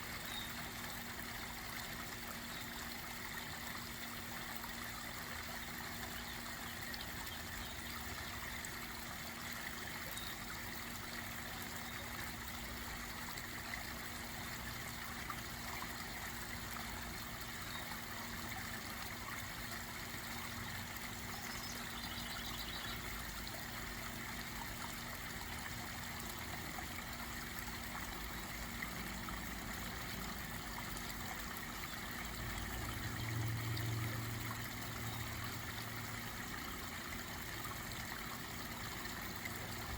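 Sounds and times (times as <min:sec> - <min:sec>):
waterfall trickling and splashing: 0:00.0 - 0:39.9.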